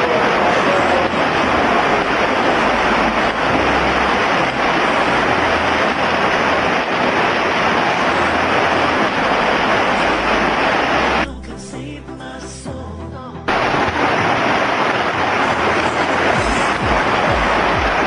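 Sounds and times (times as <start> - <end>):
swimmers splashing water: 0.0 - 11.3, 13.6 - 18.0.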